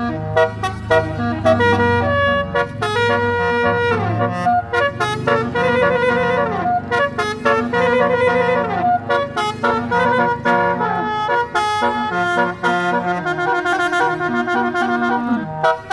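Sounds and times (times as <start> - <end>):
multi-tone air horn melody: 0.0 - 15.9.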